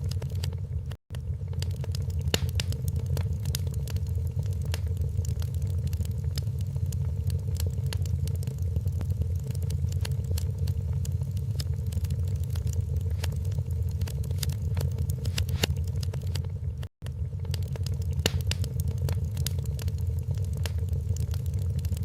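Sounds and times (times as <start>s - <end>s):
faint steady hum: 0.0s - 22.0s
low rumble: 0.0s - 22.0s
wood fire crackling and popping: 0.0s - 22.0s.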